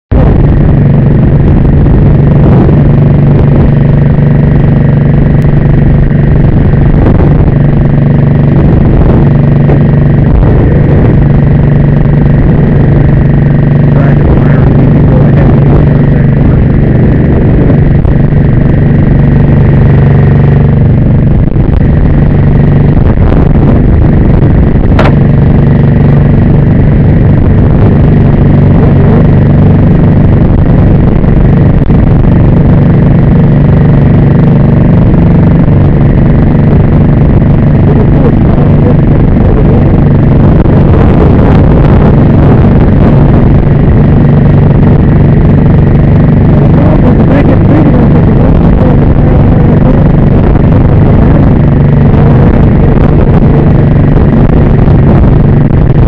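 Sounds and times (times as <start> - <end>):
truck engine humming: 0.1 - 56.0.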